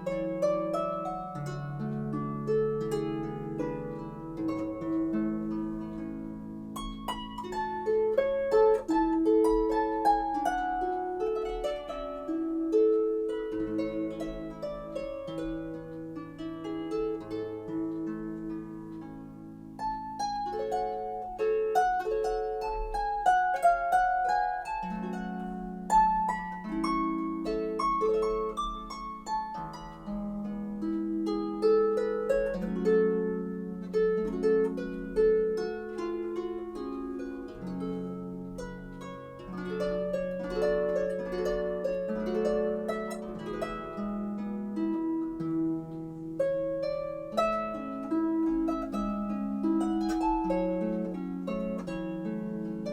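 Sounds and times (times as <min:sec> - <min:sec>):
solo harp music: 0:00.0 - 0:52.9.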